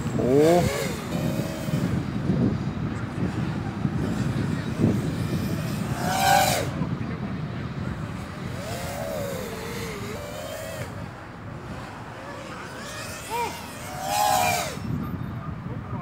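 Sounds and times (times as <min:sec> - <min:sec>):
distant road traffic rumble: 0:00.0 - 0:16.0
thin wavering whine: 0:00.0 - 0:16.0.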